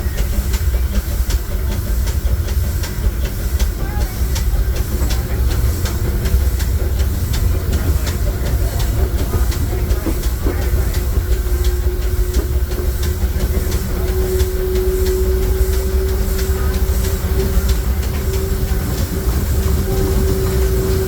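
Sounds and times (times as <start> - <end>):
steam train rumbling: 0.0 - 21.0.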